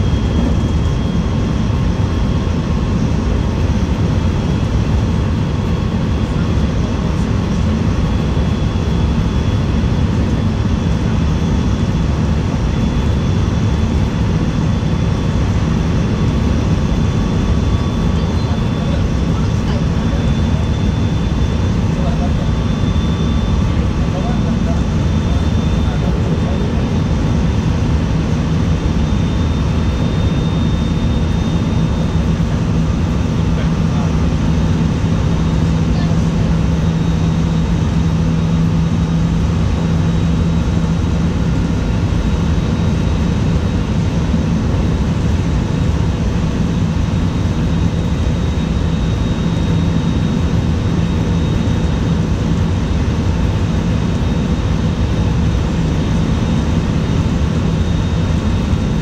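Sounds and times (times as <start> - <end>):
constant low hum: 0.0 - 59.0.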